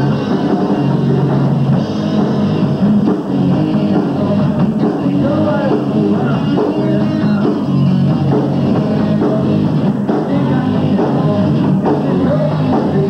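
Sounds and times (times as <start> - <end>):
drum kit with cymbals: 0.0 - 13.0
electric guitar: 0.0 - 13.0.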